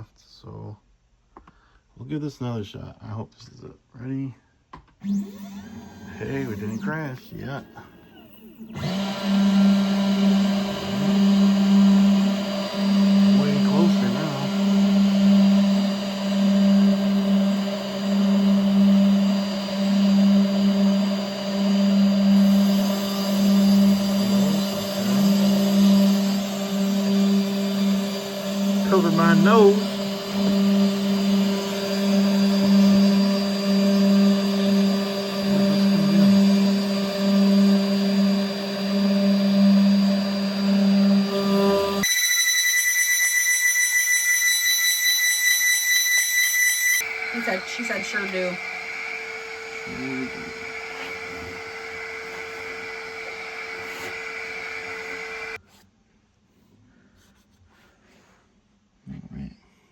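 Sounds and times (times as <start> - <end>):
router spindle milling wood: 5.0 - 55.6.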